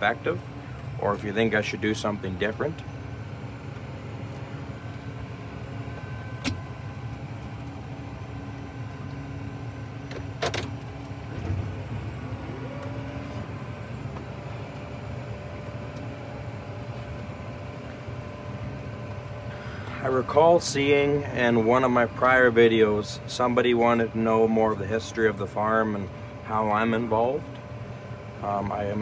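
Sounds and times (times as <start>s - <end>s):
rising whine: 0.0s - 29.0s
tractor diesel engine hum: 0.0s - 29.0s.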